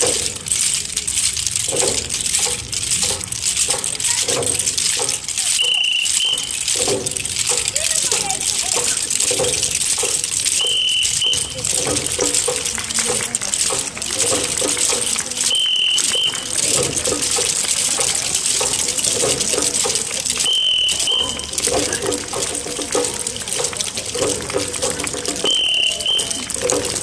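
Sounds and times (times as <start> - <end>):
murmur of voices: 0.0 - 27.0.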